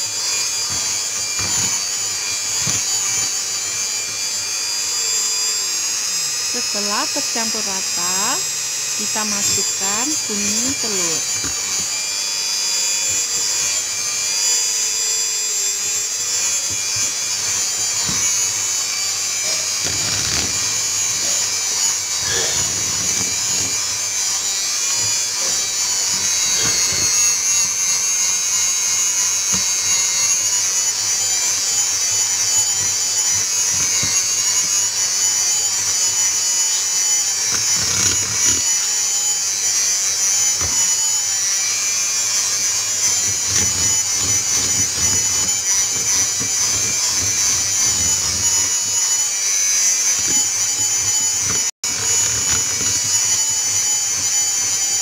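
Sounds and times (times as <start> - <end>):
electric hand mixer whisking batter: 0.0 - 55.0.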